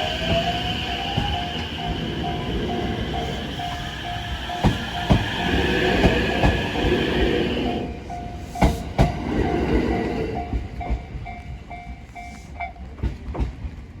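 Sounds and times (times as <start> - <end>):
level-crossing alarm warning tone: 0.0 - 12.5
train rumble and hiss: 0.0 - 14.0
train wheels clacking: 0.0 - 14.0.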